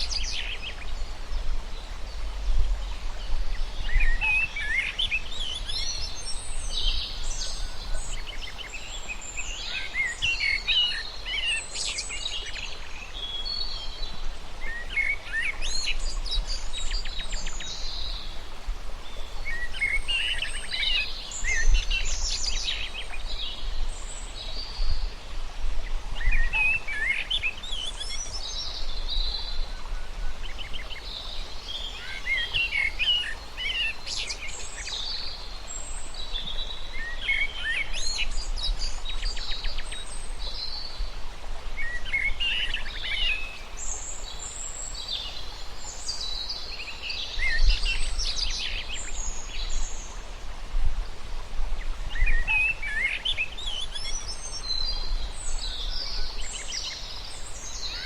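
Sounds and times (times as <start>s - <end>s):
outdoor background hiss: 0.0s - 58.0s
songbirds chirping: 0.0s - 58.0s.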